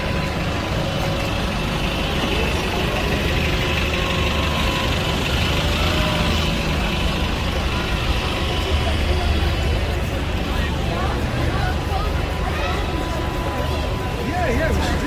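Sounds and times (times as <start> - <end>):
heavy vehicle engine rumbling: 0.0 - 15.0
street traffic: 0.0 - 15.0.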